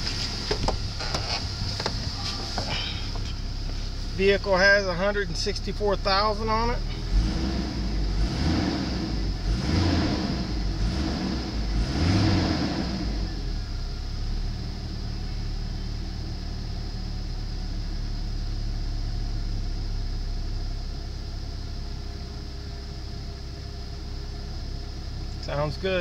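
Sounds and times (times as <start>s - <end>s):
pickup engine revving and idling: 0.0s - 26.0s.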